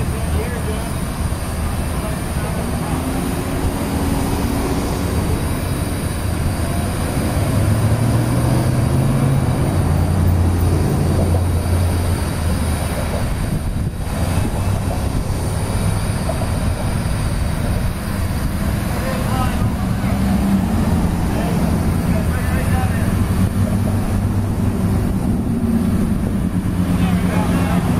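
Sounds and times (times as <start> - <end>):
low engine rumble: 0.0 - 27.9.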